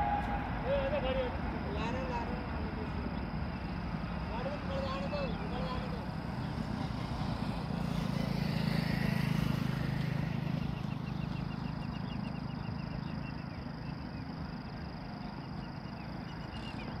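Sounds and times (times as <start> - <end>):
bird chirping: 0.0 - 7.2, 9.3 - 17.0
train rumbling on rails: 0.0 - 17.0.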